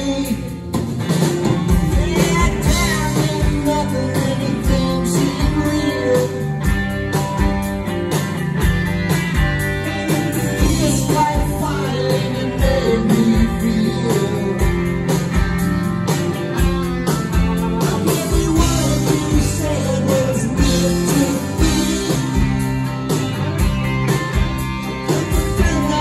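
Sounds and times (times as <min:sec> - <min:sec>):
distorted electric guitar chords: 0:00.0 - 0:26.0
steady drum beat: 0:00.0 - 0:26.0.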